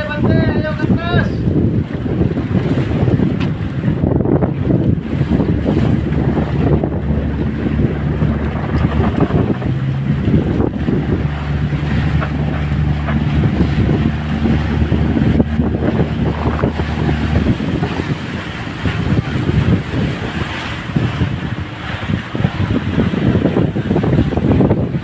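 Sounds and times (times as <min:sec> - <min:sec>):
boat engine humming: 0:00.0 - 0:25.0
wind buffeting microphone: 0:00.0 - 0:25.0.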